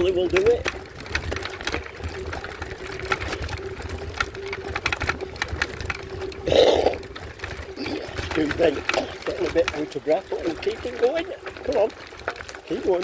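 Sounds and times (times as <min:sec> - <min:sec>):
bike clicking and rattling: 0:00.0 - 0:13.0.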